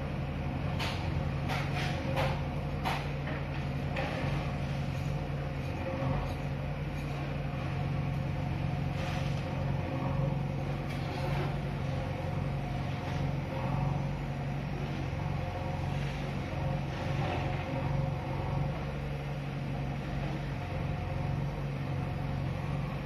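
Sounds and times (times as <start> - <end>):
diesel engines humming: 0.0 - 23.0.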